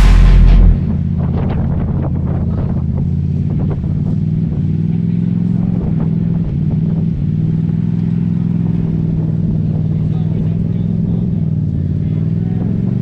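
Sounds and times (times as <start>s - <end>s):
turbocharged engine running: 0.0s - 13.0s.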